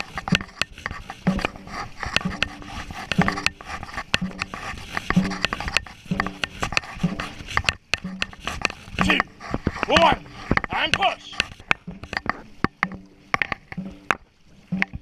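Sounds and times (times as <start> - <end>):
low drum beat: 0.0 - 15.0
paddles splashing and knocking: 0.0 - 15.0.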